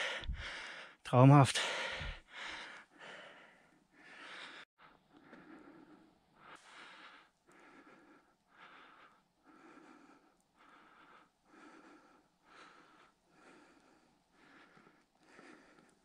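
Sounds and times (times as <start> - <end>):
person breathing heavily: 0.0 - 16.0.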